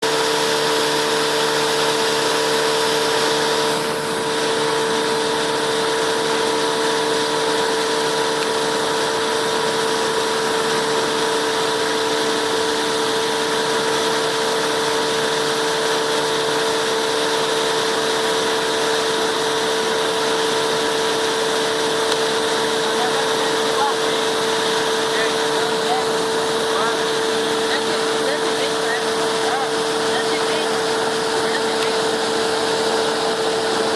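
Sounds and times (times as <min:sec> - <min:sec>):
boat engine running: 0:00.0 - 0:33.9
broad rushing noise: 0:00.0 - 0:33.9.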